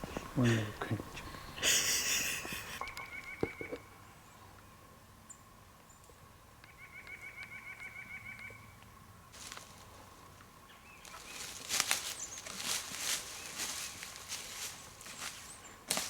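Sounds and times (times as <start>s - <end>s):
rustle of leaves: 0.0s - 16.0s.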